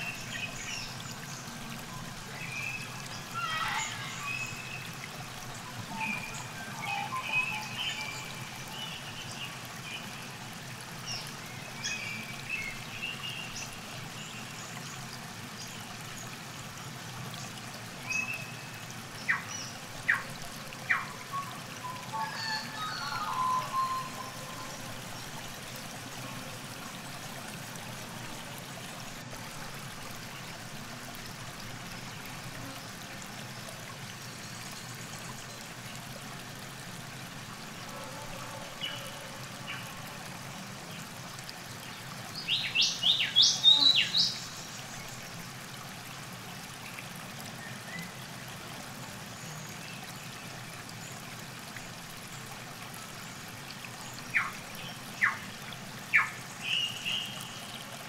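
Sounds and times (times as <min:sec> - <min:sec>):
calm river hiss: 0:00.0 - 0:58.0.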